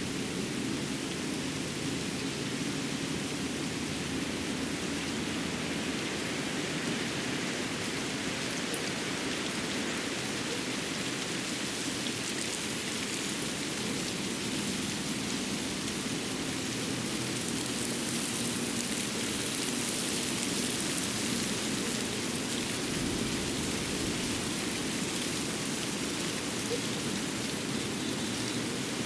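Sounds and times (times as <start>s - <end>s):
steady hiss with light patter: 0.0s - 29.0s.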